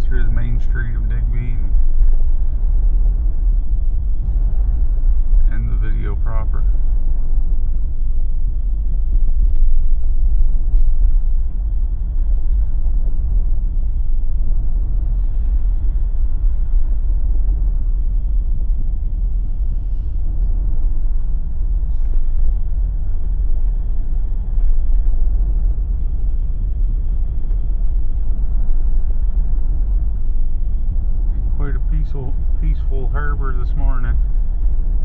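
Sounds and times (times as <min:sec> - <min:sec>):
vehicle driving rumble: 0:00.0 - 0:35.0.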